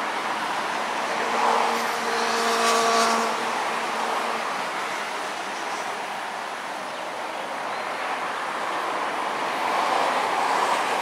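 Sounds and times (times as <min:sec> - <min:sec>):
passing vehicle traffic: 0:00.0 - 0:11.0.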